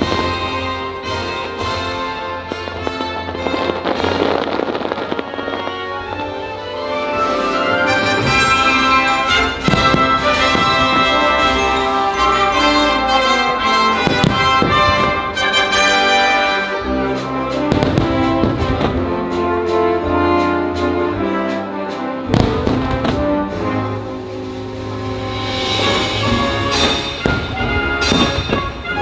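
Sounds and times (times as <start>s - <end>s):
fireworks bursting: 0.0s - 29.0s
orchestral music led by brass: 0.0s - 29.0s.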